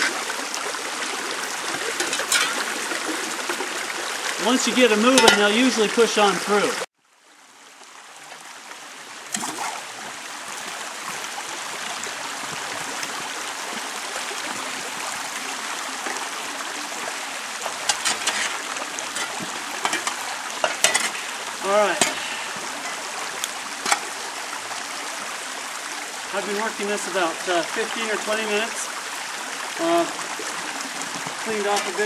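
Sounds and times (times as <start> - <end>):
water rushing through sluice box: 0.0 - 6.9, 7.7 - 32.0.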